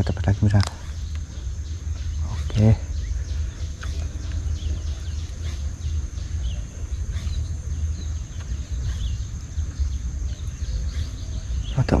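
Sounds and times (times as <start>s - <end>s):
bird chirps: 0.0s - 12.0s
high-pitched insect drone: 0.0s - 12.0s
low rumble: 0.0s - 12.0s.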